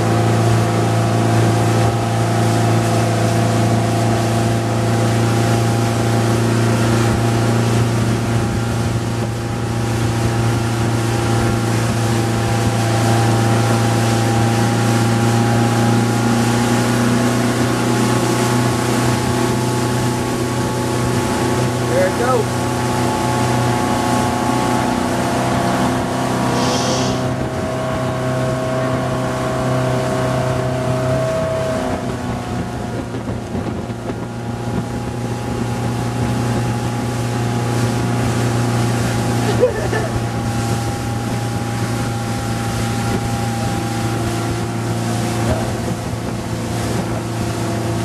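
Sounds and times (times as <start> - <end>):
motorboat engine running: 0.0 - 48.0
rush of churning wake: 0.0 - 48.0.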